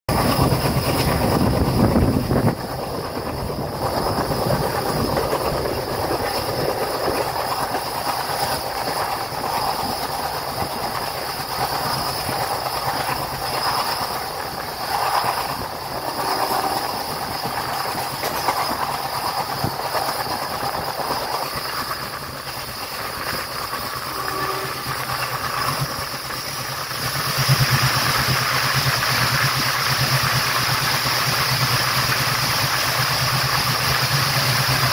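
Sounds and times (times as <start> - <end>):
train rolling rumble: 0.1 - 34.9
wheels clacking on rails: 0.1 - 34.9.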